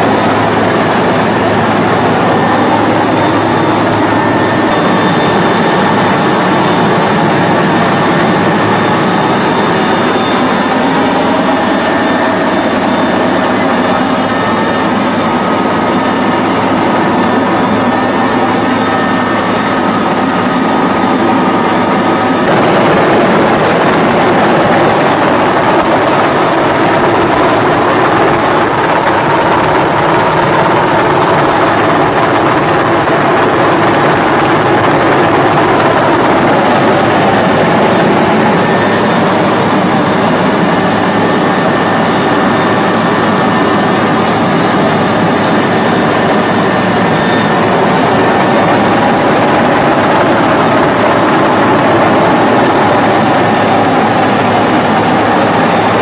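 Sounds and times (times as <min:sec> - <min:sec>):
helicopter turbine and rotor: 0:00.0 - 0:56.0
hum with steady tones: 0:00.0 - 0:56.0.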